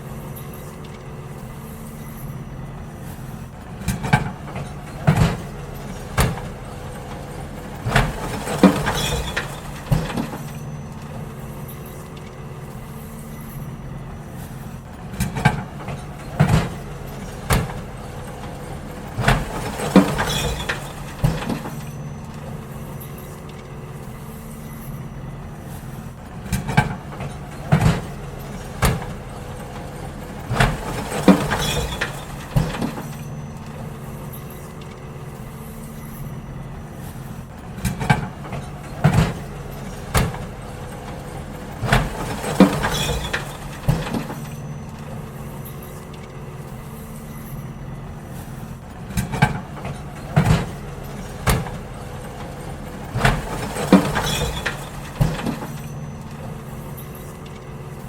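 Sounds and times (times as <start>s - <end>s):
bins clattering and banging: 0.0s - 58.0s
garbage truck engine running: 0.0s - 58.0s.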